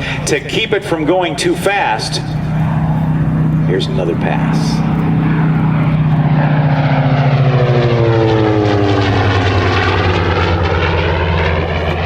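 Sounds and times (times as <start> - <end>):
propeller plane passing overhead: 0.0 - 12.0.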